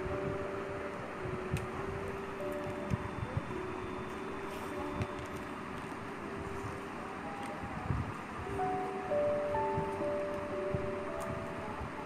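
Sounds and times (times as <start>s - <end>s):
quiet music of long held notes: 0.0s - 12.0s
steady hiss: 0.0s - 12.0s.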